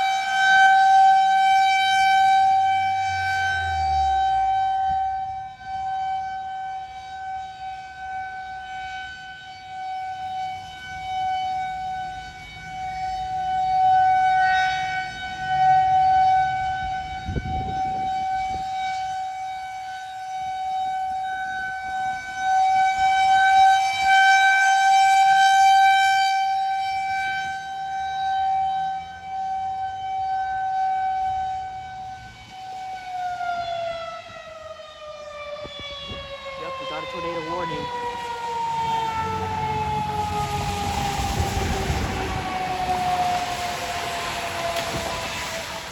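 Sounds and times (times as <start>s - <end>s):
rotating warning siren: 0.0s - 45.9s.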